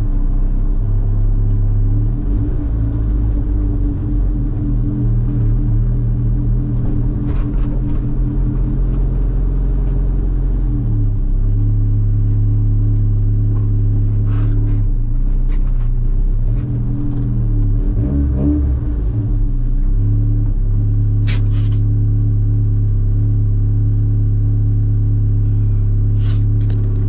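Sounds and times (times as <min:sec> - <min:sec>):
car engine and road drone: 0:00.0 - 0:27.0.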